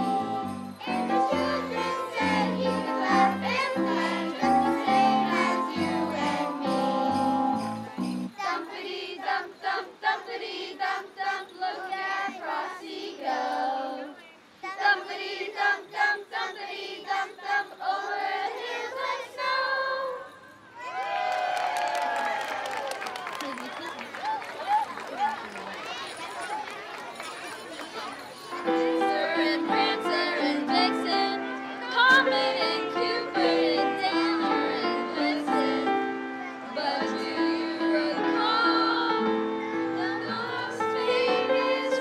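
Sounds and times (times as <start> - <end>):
girls singing a carol: 0.0 - 20.4, 28.6 - 42.0.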